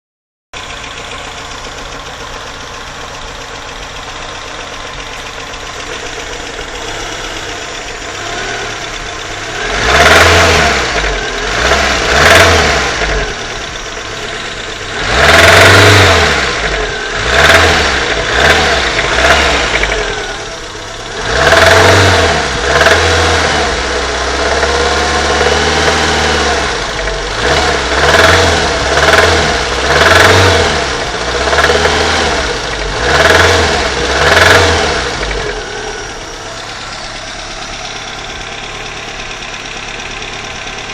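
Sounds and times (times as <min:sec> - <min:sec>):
car engine idling and revving: 0:00.6 - 0:40.9.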